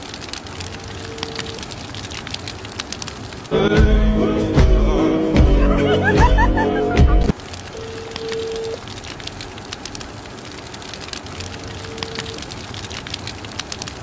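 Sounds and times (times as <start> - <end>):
fire crackling: 0.0 - 14.0.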